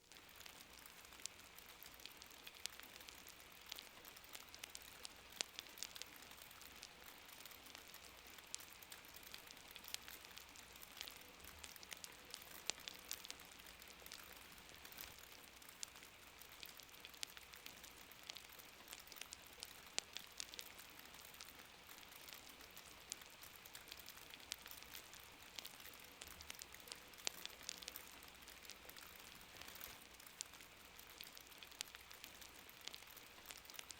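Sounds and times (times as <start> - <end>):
fire crackling and popping: 0.0 - 33.9
soft rain hiss: 0.0 - 33.9.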